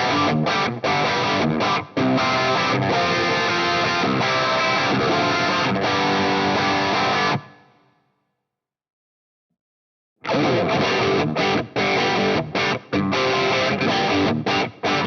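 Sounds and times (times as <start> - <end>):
electric guitar strumming chords: 0.0 - 7.7, 10.3 - 15.0.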